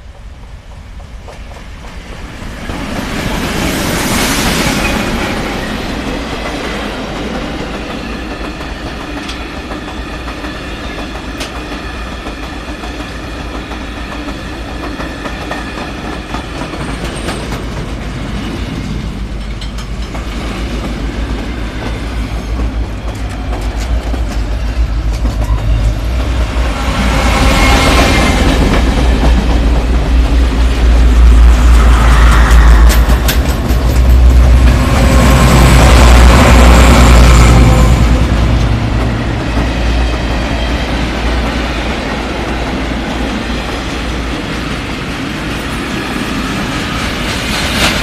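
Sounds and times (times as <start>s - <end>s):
diesel locomotive passing: 0.0s - 48.0s
train wheels clicking over rails: 0.1s - 48.0s.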